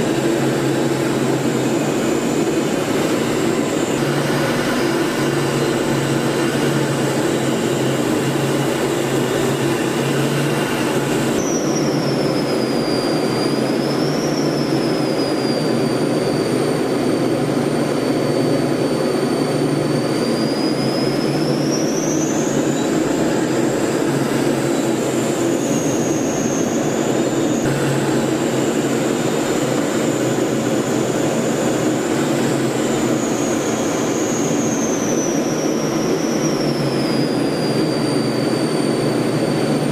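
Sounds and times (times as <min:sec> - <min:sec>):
aircraft engine drone: 0:00.0 - 0:39.9
high whine sliding in pitch: 0:00.0 - 0:39.9.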